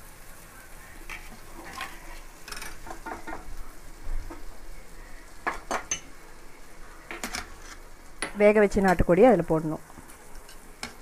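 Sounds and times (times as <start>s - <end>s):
onion and tomato sizzling in oil: 0.0s - 11.0s.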